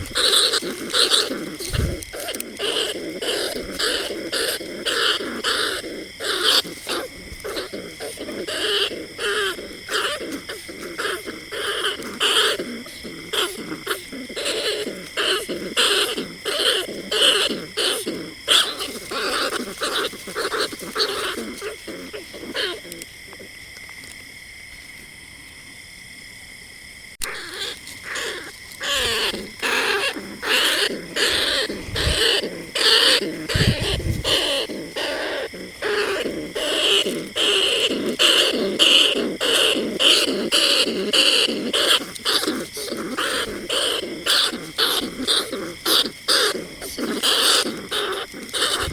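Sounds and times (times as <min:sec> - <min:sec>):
rat calls: 0:00.0 - 0:24.2, 0:27.2 - 0:48.9.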